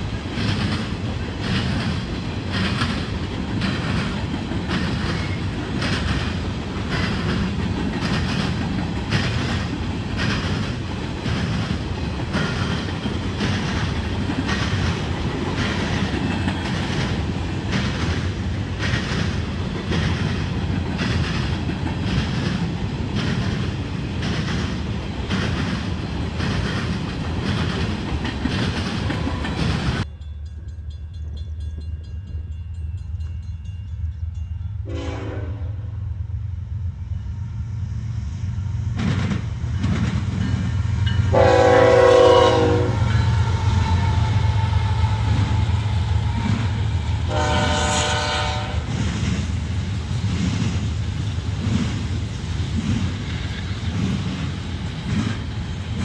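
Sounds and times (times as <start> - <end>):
train wheels clicking over rail joints: 0.0 - 30.1, 38.8 - 56.0
freight train rumble: 0.0 - 56.0.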